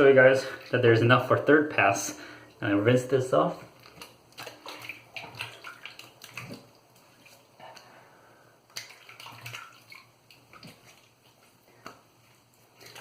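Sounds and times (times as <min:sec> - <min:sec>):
water splashing: 0:00.0 - 0:01.4, 0:02.6 - 0:08.0, 0:08.7 - 0:13.0.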